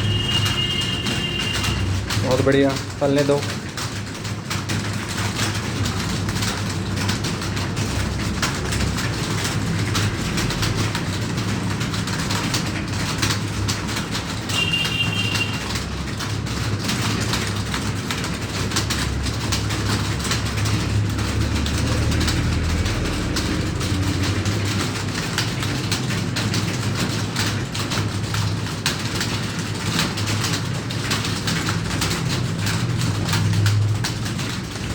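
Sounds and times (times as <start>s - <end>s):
keyboards typing clatter: 0.0s - 34.9s.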